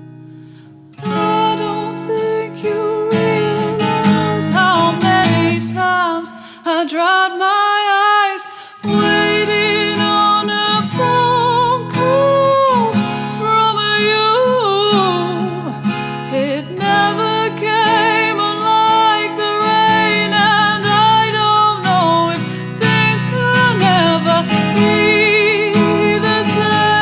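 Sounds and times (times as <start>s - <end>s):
acoustic guitar playing: 0.0s - 6.4s, 8.8s - 27.0s
person singing with vibrato: 1.0s - 27.0s.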